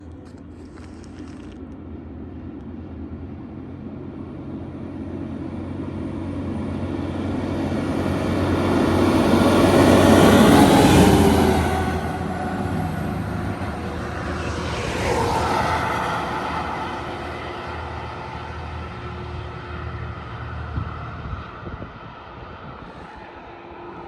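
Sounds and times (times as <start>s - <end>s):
fire truck diesel engine passing: 3.9s - 24.0s.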